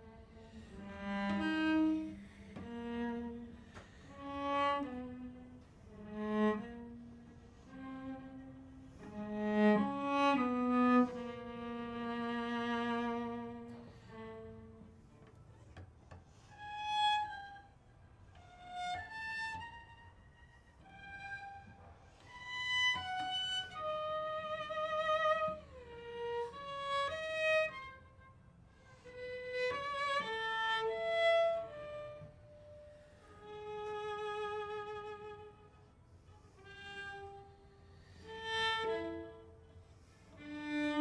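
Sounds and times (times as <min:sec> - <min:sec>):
bowed cello: 0:00.0 - 0:41.0.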